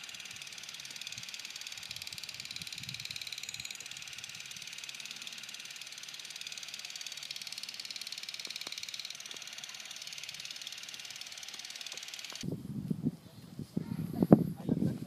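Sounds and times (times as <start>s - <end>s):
insect chorus buzzing: 0.0s - 12.4s.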